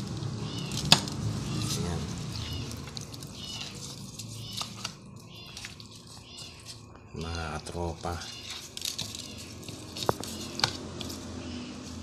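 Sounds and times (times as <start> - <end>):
faint chirping calls: 0.4 - 7.3, 8.2 - 11.8.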